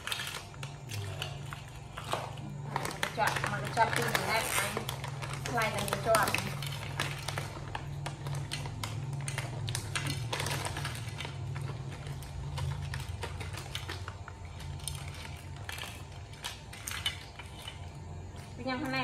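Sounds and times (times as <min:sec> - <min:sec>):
plastic snack bag crinkling: 0:00.0 - 0:19.0.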